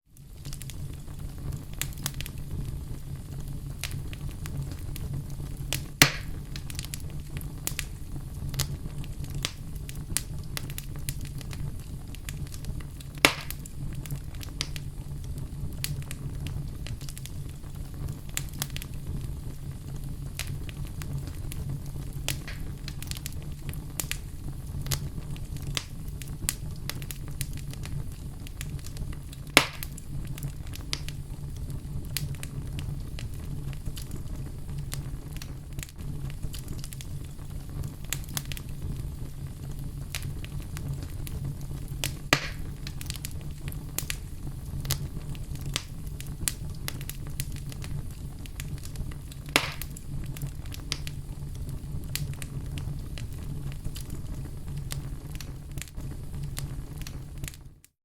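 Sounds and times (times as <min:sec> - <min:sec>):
wood fire crackling: 0:00.0 - 0:58.0
sharp fire pops: 0:00.2 - 0:57.6.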